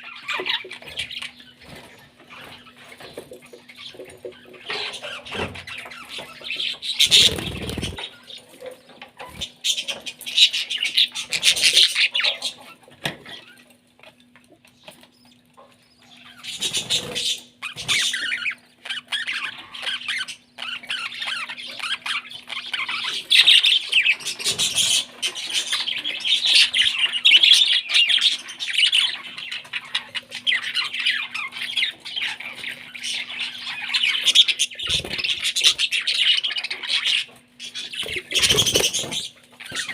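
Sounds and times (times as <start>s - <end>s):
parrot chicks begging squawks: 0.0s - 8.6s, 9.2s - 14.2s, 14.8s - 39.9s.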